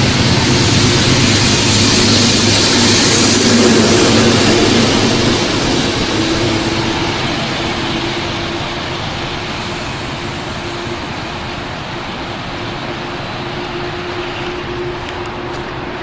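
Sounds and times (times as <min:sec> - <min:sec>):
passenger train rushing past: 0:00.0 - 0:16.0.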